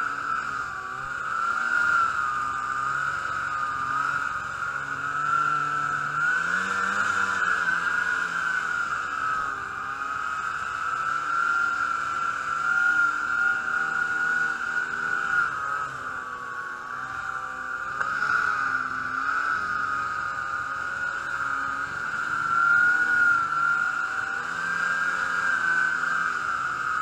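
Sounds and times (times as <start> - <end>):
snowmobile engine whining: 0.0 - 27.0.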